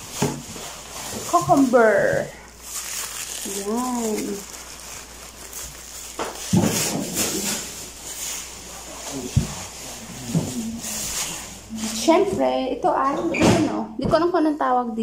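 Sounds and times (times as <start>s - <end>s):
plastic bags rustling: 0.0s - 12.3s.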